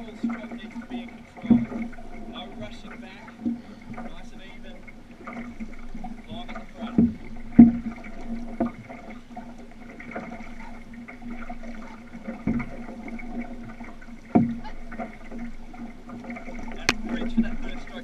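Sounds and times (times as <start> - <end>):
water lapping against hull: 0.0 - 18.0
dull knocks on hull: 1.4 - 4.3, 5.2 - 9.2, 10.0 - 17.7.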